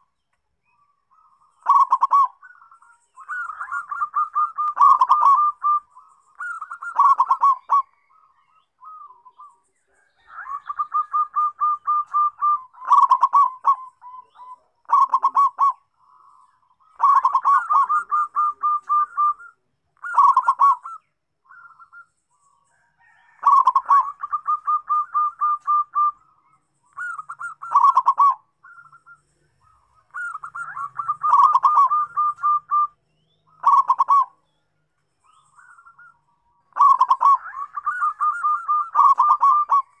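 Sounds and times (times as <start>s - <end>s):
dove cooing: 0.8s - 34.4s, 35.2s - 40.0s.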